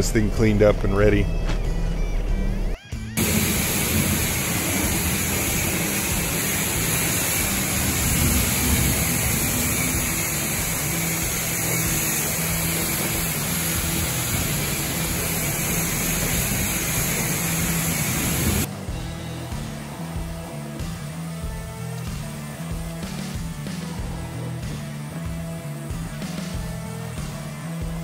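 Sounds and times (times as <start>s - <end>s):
pressure washer spraying on metal: 3.2s - 28.0s.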